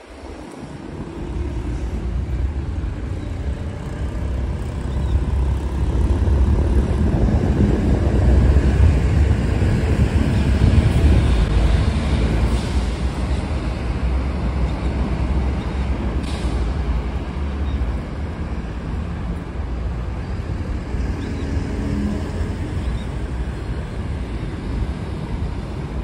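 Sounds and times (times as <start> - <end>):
low rumble of passing vehicles: 0.0 - 26.0.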